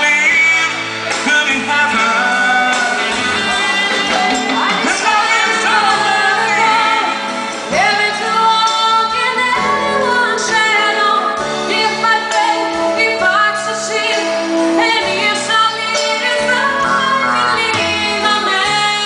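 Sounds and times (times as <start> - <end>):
live band playing: 0.0 - 19.0
woman singing into a microphone: 2.7 - 19.0.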